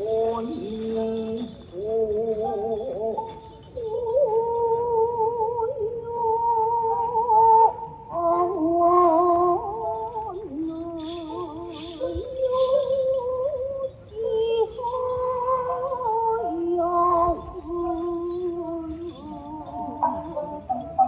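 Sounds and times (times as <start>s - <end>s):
small bells jingling: 0.0s - 5.9s, 9.4s - 21.0s
traditional slow wavering melody: 0.0s - 21.0s.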